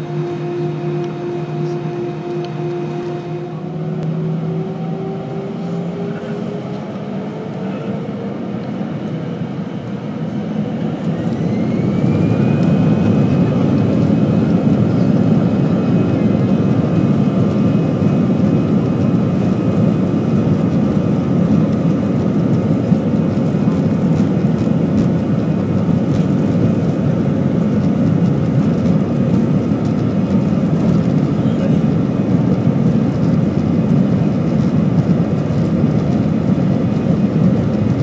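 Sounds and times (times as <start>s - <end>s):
jet engines spooling up: 0.0s - 38.0s.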